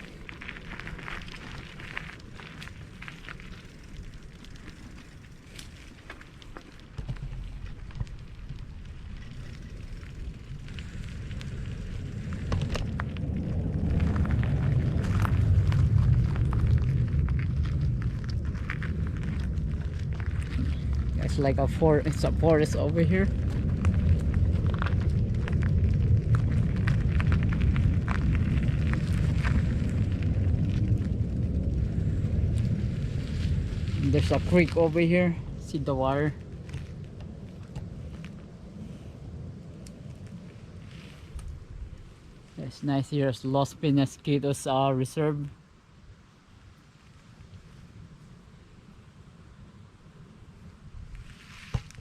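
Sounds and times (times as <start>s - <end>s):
bike tyres crunching on loose rock: 0.0s - 45.4s, 50.1s - 52.0s
wind rumble on microphone: 0.0s - 52.0s.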